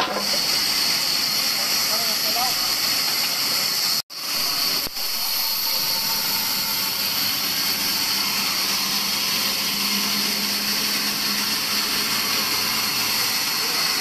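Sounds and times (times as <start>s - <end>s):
band saw cutting wood: 0.0s - 14.0s.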